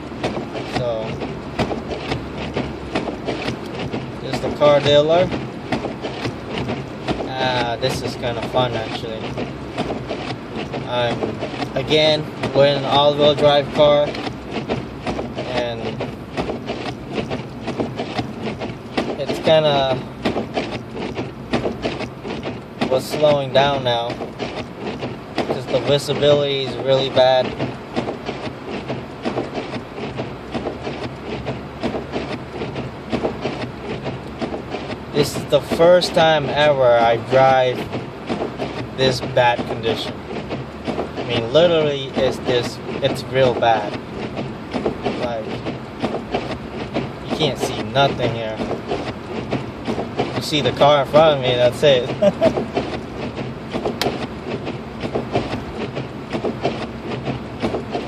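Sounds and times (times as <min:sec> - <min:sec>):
low road and engine hum: 0:00.0 - 0:58.0
quick irregular ticks and knocks: 0:00.0 - 0:58.0.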